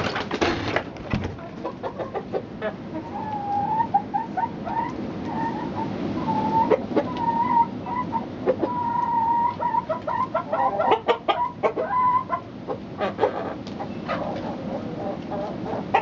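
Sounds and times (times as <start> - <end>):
hens clucking: 1.2 - 16.0.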